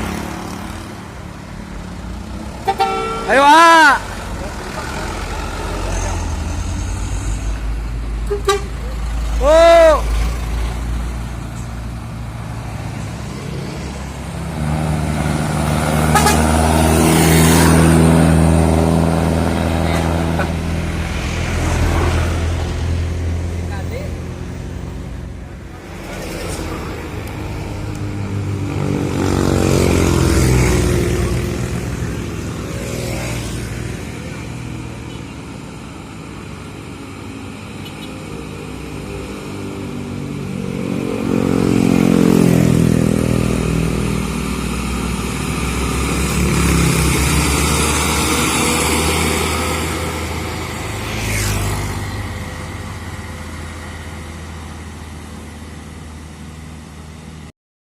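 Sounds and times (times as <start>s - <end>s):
vehicle engines revving uphill: 0.0s - 57.5s.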